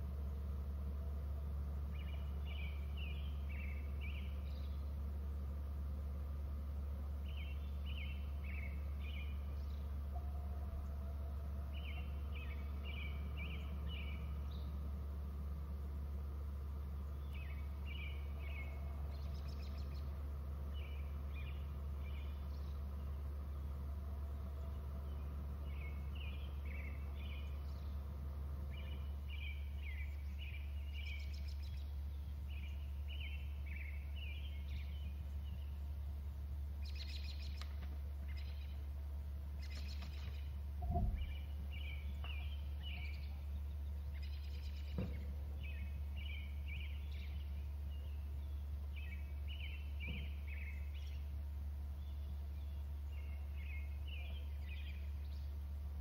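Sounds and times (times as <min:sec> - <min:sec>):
low hum: 0:00.0 - 0:56.0
bird chirping: 0:00.1 - 0:06.0, 0:06.6 - 0:55.8.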